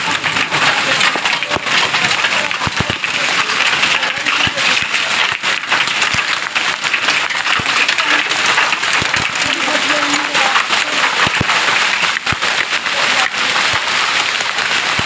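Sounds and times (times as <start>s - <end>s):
hail and rain pelting down: 0.0s - 15.0s.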